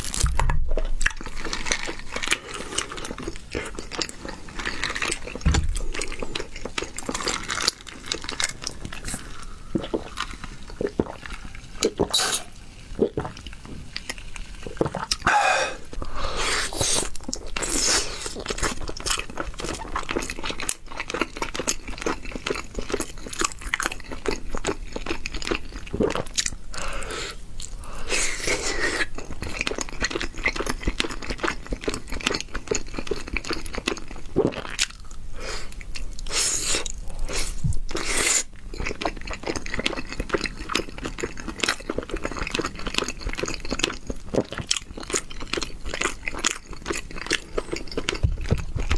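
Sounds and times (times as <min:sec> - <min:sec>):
person crunching and chewing food: 0:00.0 - 0:48.9.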